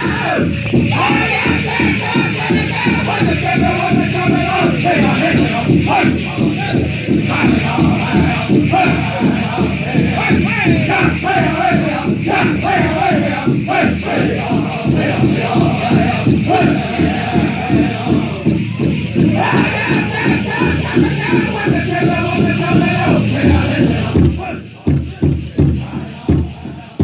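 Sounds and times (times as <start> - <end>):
group singing high vocables: 0.0 - 27.0
jingle dress cones shaking: 0.0 - 27.0
steady big drumbeat: 0.0 - 27.0.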